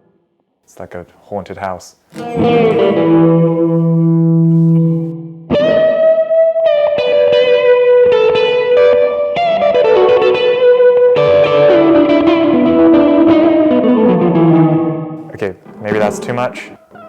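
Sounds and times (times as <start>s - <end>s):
electric guitar with delay and reverb: 2.1s - 17.0s.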